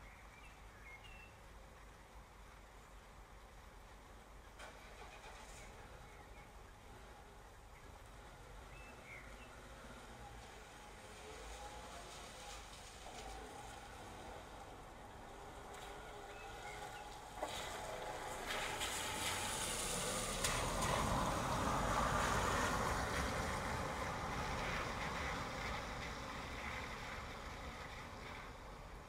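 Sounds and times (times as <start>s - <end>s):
steady rain: 1.4s - 29.0s
tyres hissing on wet road: 2.6s - 29.0s.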